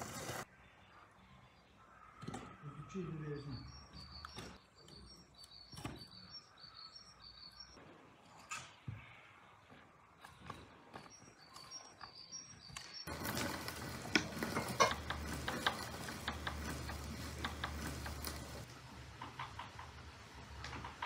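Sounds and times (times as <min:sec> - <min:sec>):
bird chirping: 0:00.5 - 0:07.8, 0:10.2 - 0:20.0.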